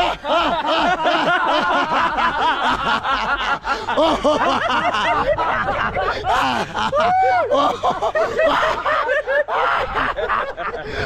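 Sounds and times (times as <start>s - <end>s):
men laughing loudly: 0.0s - 11.0s.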